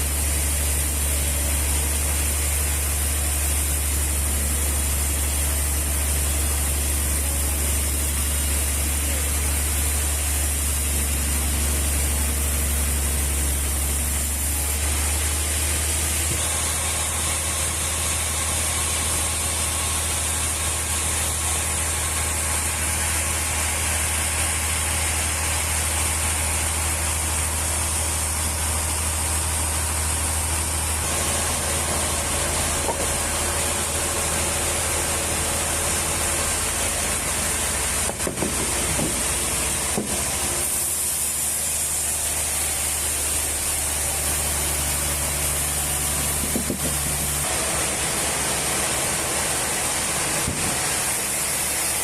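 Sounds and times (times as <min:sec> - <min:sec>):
sawmill machinery humming and hissing: 0:00.0 - 0:52.0.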